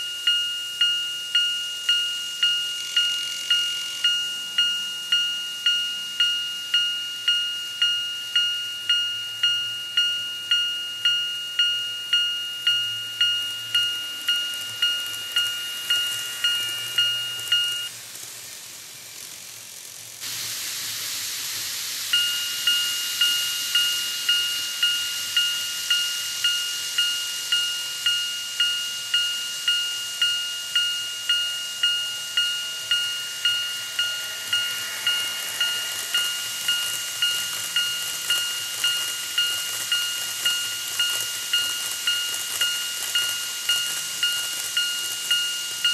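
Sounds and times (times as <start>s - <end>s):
electronic level crossing bell: 0.0s - 17.9s, 22.2s - 45.9s
model train rattling over track: 8.4s - 45.9s.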